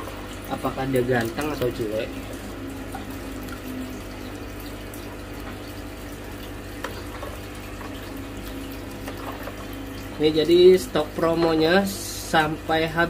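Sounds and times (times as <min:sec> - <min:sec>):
filter low hum: 0:00.0 - 0:13.0
water trickling: 0:00.0 - 0:13.0.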